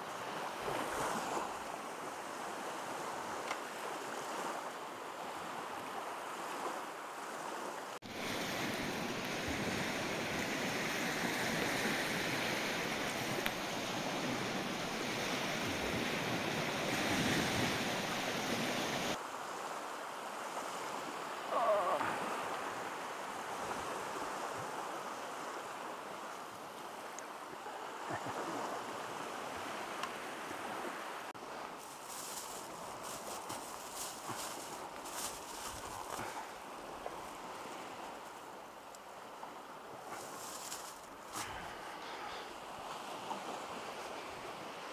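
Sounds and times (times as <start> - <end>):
waves washing up a beach: 0.0 - 44.9.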